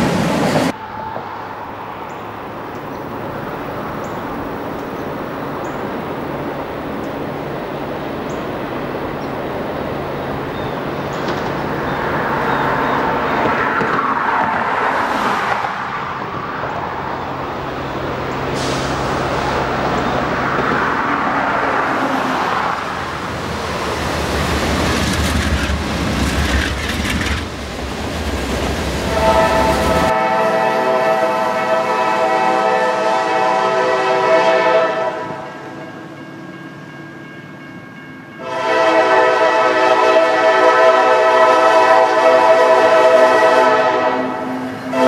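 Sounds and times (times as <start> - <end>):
diesel locomotive engine drone: 0.0 - 45.0
train low rumble: 0.0 - 45.0.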